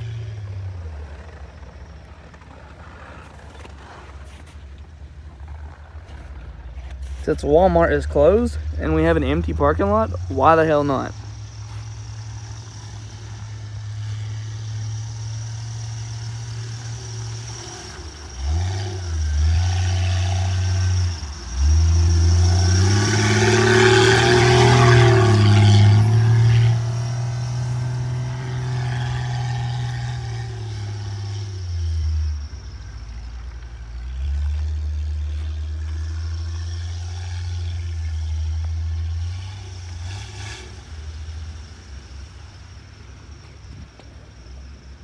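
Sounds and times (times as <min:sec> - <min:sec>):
car engine revving: 0:00.0 - 0:44.8
tyres spinning through snow: 0:00.0 - 0:45.0.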